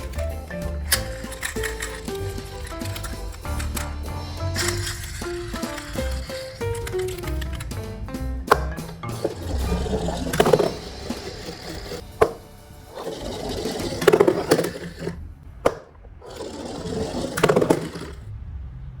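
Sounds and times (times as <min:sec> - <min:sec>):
sharp clacks: 0:00.0 - 0:18.3
toy cars rolling and rattling: 0:00.0 - 0:18.3.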